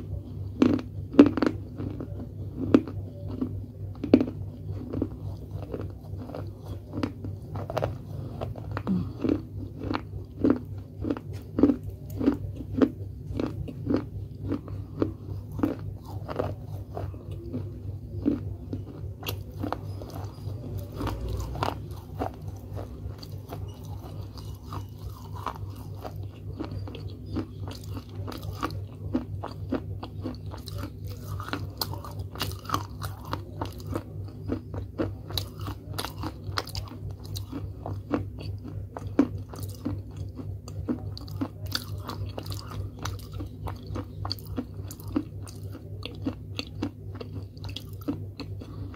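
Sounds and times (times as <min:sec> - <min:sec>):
crunching and chewing clay: 0:00.0 - 0:48.9.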